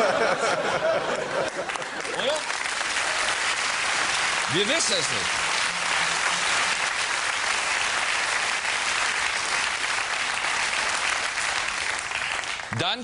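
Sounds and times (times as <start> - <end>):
studio audience applauding: 0.8 - 13.0.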